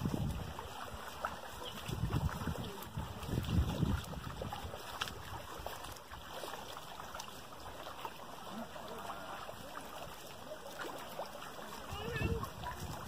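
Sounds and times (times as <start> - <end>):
footsteps wading through water: 0.0 - 13.0.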